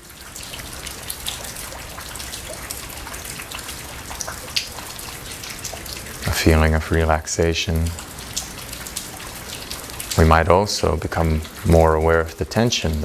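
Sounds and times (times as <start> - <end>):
raindrops pattering on surfaces: 0.0 - 13.0
steady rain hiss: 0.0 - 13.0.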